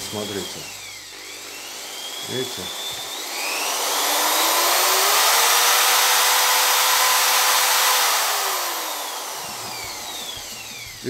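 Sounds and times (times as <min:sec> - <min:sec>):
electric drill motor whine: 0:00.0 - 0:11.0.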